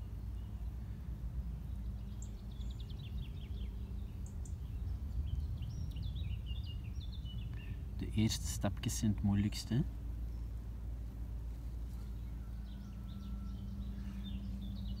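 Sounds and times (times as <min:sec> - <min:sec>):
songbird twittering: 0:00.0 - 0:15.0
steady low rumble: 0:00.0 - 0:15.0.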